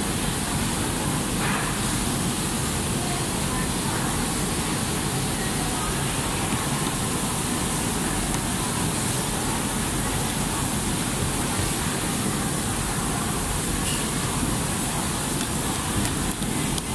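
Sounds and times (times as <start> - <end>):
machinery and ventilation hum: 0.0 - 16.9.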